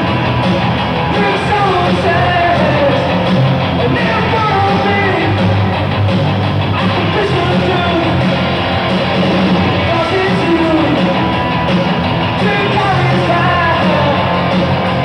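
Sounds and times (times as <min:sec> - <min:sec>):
punk rock band playing live: 0:00.0 - 0:15.0.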